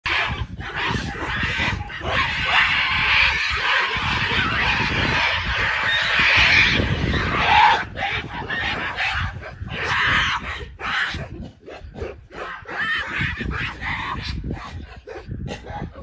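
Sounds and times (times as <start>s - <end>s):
gorillas screaming harshly: 0.1s - 11.2s, 12.4s - 14.4s.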